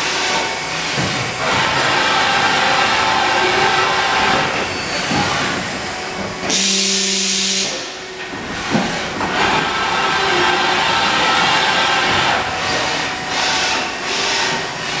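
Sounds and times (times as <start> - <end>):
shop machinery whirring: 0.0 - 15.0.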